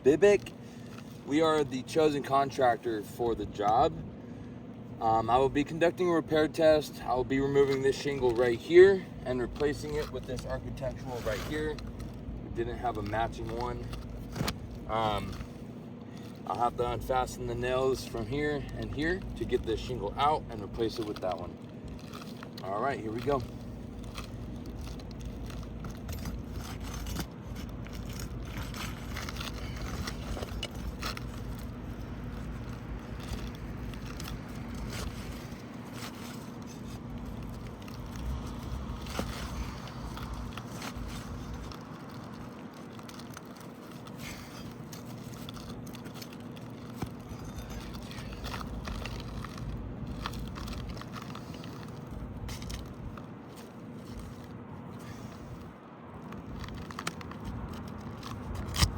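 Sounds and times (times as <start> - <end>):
hand tools scraping shingles: 6.6 - 55.7
small clicks and crackles: 7.4 - 58.9.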